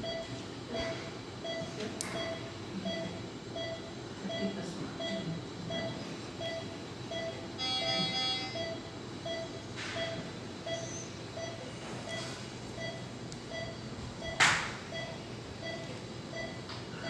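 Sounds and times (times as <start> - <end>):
operating room hum: 0.0 - 17.0
patient monitor beeping: 0.0 - 17.0.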